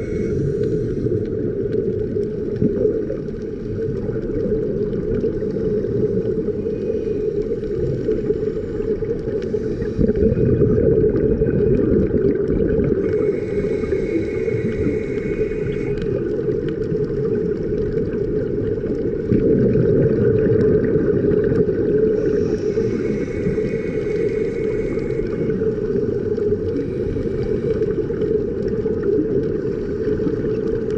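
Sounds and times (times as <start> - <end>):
faint underwater clicks: 0.0 - 30.9
muffled underwater rumble: 0.0 - 30.9.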